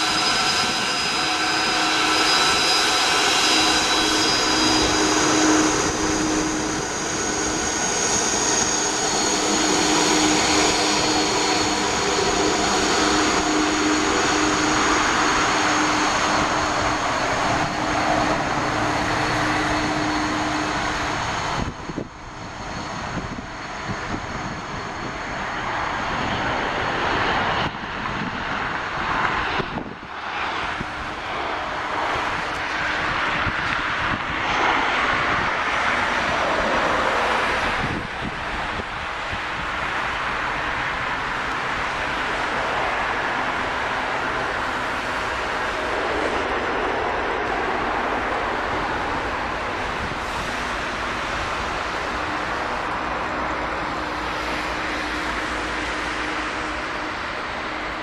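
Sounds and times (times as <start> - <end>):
jet engine roar: 0.0 - 58.0
jet engine whine: 0.0 - 58.0.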